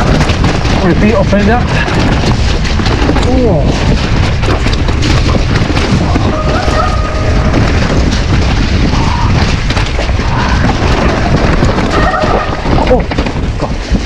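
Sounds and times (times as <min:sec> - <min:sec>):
mountain bike rattling downhill: 0:00.0 - 0:14.0
wind buffeting microphone: 0:00.0 - 0:14.0.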